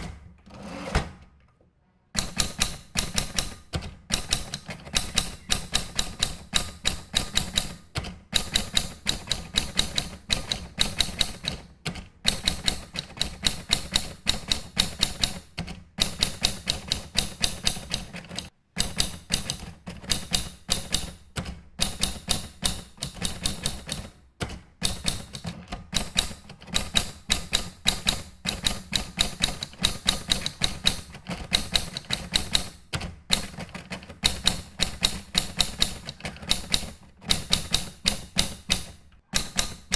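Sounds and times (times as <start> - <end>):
typewriter keys clacking: 2.2 - 39.9.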